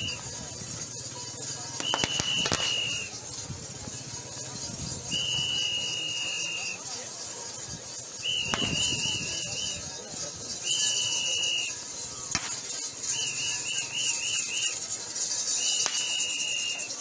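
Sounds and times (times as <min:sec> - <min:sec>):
shrill whistle blasts: 0:00.0 - 0:00.8, 0:01.8 - 0:17.0
high hiss: 0:00.0 - 0:17.0.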